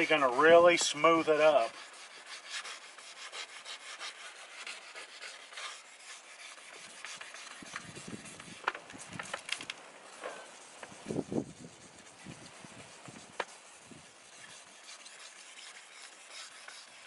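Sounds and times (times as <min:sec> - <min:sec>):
sandpaper scratching on plastic: 0:00.0 - 0:17.0.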